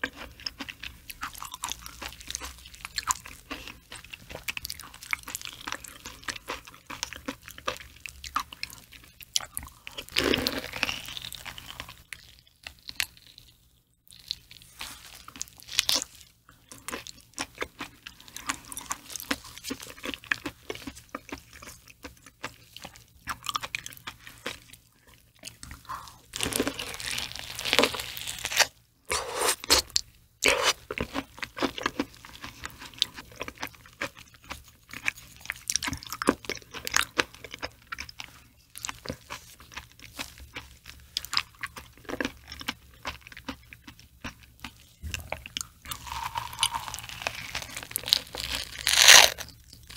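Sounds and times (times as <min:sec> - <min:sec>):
wet chewing and smacking: 0:00.0 - 0:28.2, 0:29.2 - 0:49.9.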